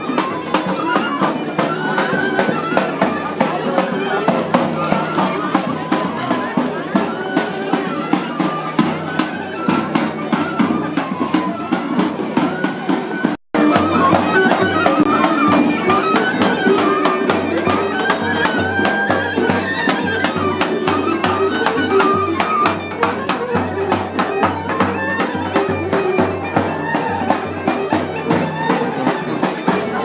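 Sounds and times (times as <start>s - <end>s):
large drum beat: 0.0s - 30.0s
wind instrument melody: 0.0s - 30.0s.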